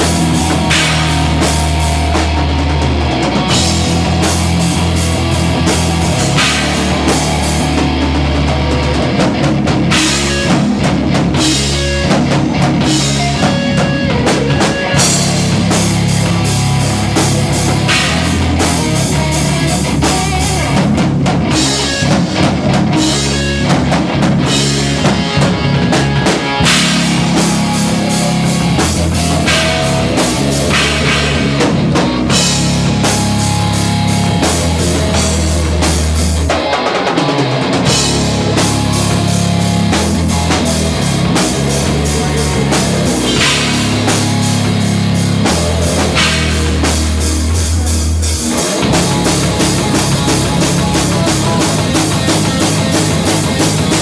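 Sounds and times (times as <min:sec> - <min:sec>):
drum kit: 0:00.0 - 0:54.0
heavy rock music: 0:00.0 - 0:54.0.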